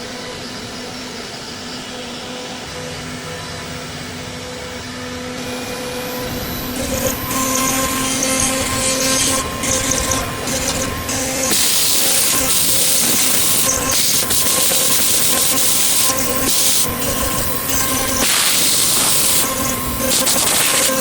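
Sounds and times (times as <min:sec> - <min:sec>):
router spindle whine: 0:00.0 - 0:21.0
router bit cutting wood: 0:00.2 - 0:21.0.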